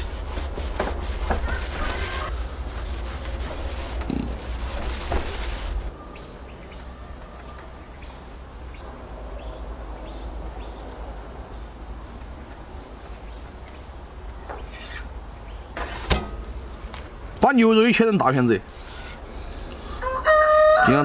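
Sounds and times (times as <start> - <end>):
low outdoor hum: 0.0 - 20.3.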